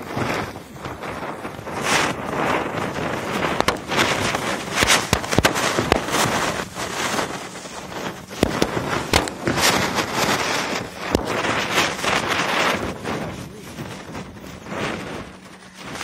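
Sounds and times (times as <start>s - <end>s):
firecrackers banging: 0.0s - 16.0s
ground spinner firework hissing: 0.0s - 16.0s.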